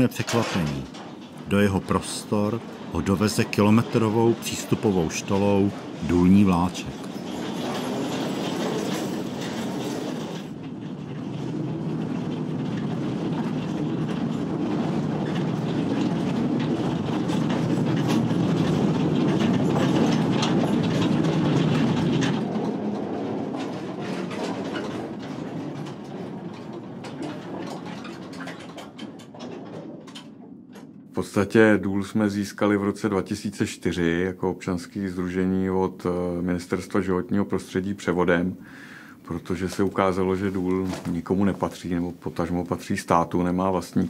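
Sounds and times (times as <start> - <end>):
mine train rumbling: 0.0 - 44.0
wheels clacking on rails: 0.0 - 44.0.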